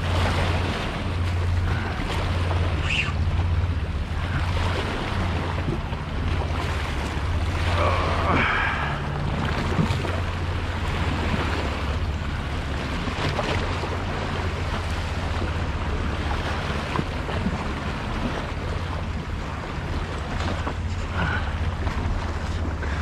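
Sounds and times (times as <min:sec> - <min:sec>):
waves washing against rocks: 0:00.0 - 0:23.0.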